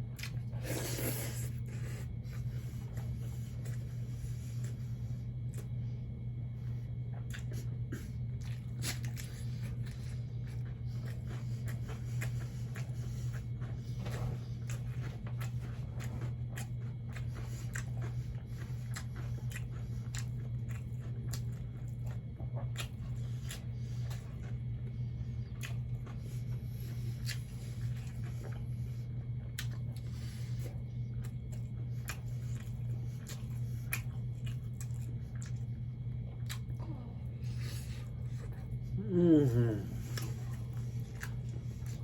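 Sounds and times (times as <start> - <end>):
low hum: 0.0 - 42.0
person chewing with mouth clicks: 0.2 - 2.5, 7.2 - 42.0.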